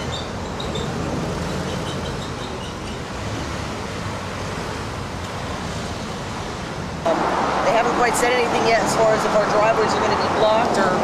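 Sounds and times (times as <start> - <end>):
cars passing: 0.0 - 11.0
dump truck passing: 0.0 - 11.0.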